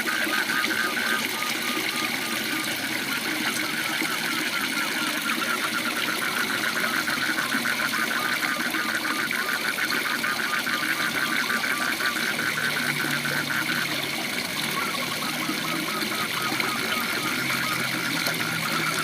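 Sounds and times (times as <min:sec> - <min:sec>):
frogs calling in pulsed trill: 0:00.0 - 0:19.0.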